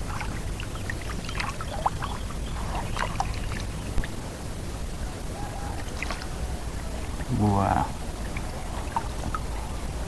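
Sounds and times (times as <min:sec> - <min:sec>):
water splashing and trickling: 0:00.0 - 0:04.6, 0:05.5 - 0:10.0.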